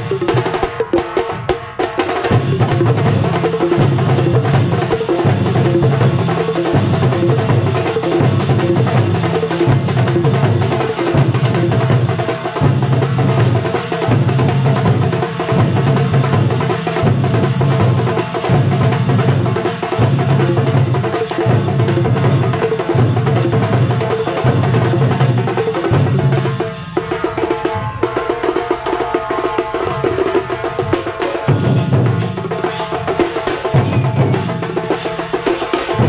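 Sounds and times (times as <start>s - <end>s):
drum troupe playing: 0.0s - 36.0s.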